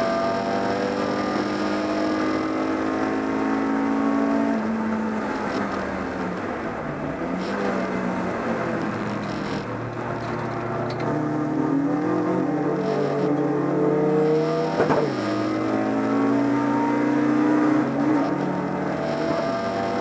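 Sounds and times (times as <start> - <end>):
race car engine running hard: 0.0 - 20.0.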